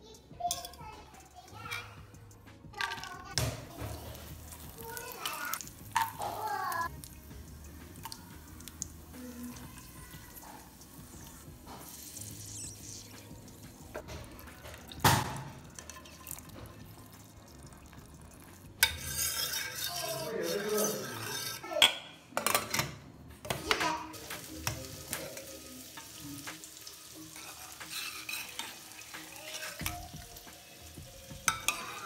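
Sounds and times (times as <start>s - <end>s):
hot ghee sizzling: 3.7s - 21.7s, 24.1s - 32.0s.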